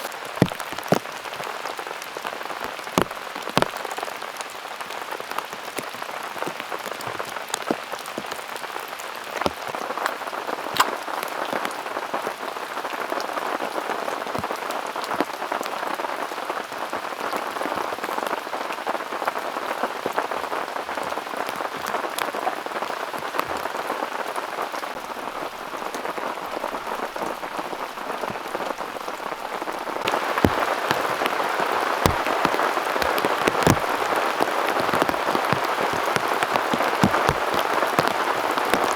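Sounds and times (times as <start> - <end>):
raindrops striking close by: 0.0 - 38.9.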